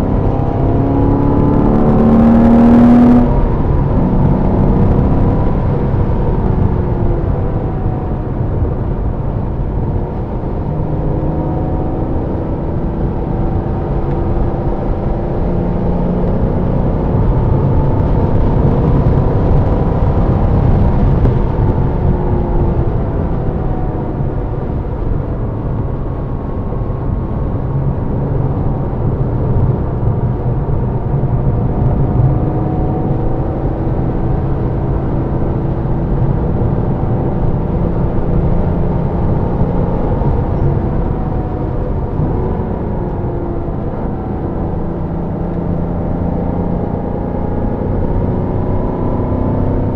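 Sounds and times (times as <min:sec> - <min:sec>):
car engine under load: 0:00.0 - 0:49.9
road and wind noise: 0:00.0 - 0:49.9.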